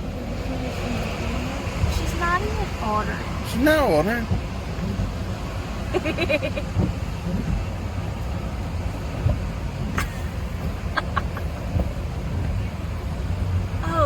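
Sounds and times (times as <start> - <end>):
vehicle rumble inside cabin: 0.0 - 14.0.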